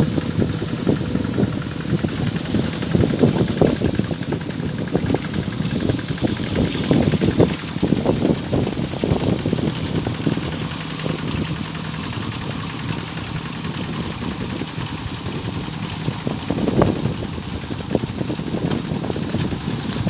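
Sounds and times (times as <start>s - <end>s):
hand tractor diesel engine running: 0.0s - 20.0s.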